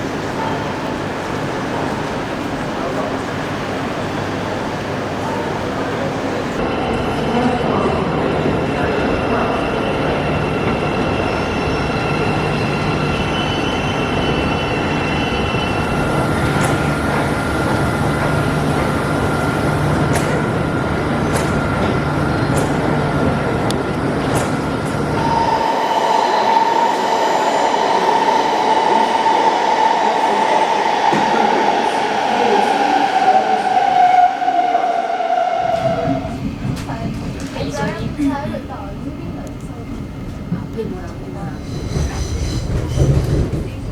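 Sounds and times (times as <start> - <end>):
electric train whine: 0.0 - 43.8
train rumbling: 0.0 - 43.9.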